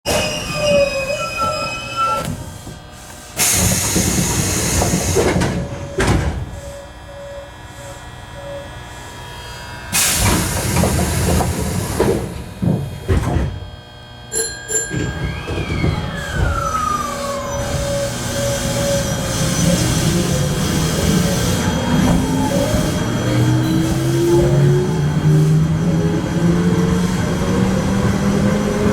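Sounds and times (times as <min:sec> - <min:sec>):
electric train running on rails: 0:00.1 - 0:28.9.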